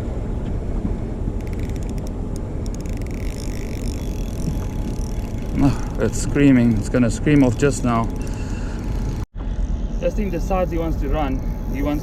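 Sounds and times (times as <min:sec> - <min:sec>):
steady low rumble: 0:00.0 - 0:12.0
fishing reel drag clicking and buzzing: 0:01.4 - 0:09.2, 0:09.9 - 0:12.0.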